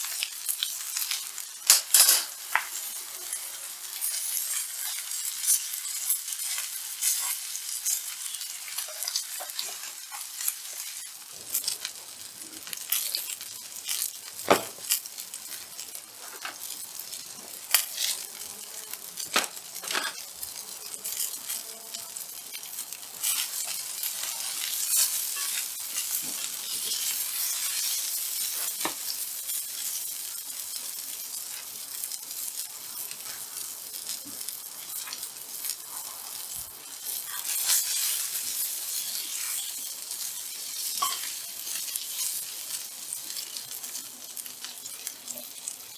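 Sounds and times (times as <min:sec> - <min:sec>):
steak sizzling on a griddle: 0:00.0 - 0:45.9.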